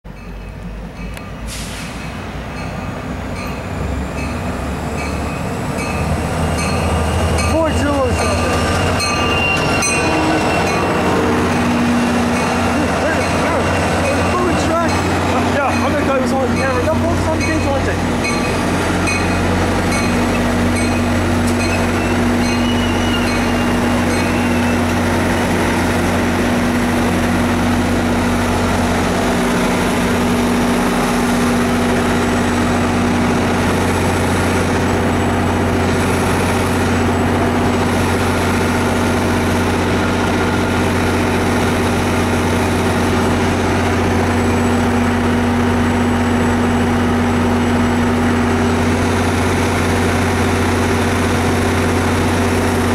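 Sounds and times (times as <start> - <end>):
diesel locomotive idling: 0.1 - 52.9.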